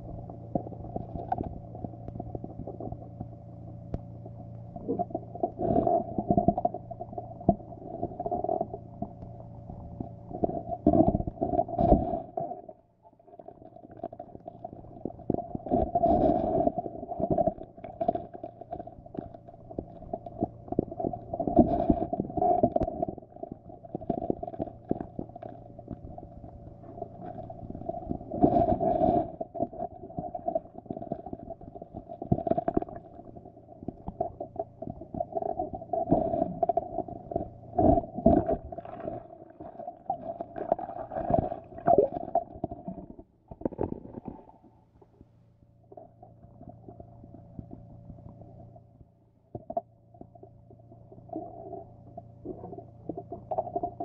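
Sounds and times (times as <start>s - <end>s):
muffled underwater rumbling: 0.0s - 54.0s
steady mid-pitched hum: 0.0s - 54.0s.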